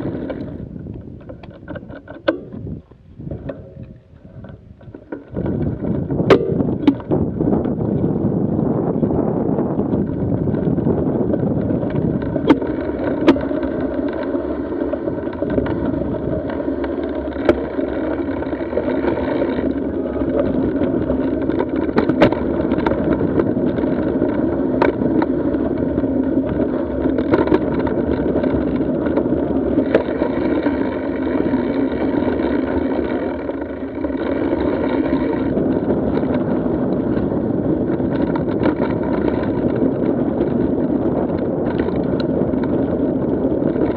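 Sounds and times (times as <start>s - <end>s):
bike knocking and rattling: 0.0s - 43.9s
bike tyres rolling on gravel: 0.0s - 43.9s
wind on microphone: 0.0s - 43.9s.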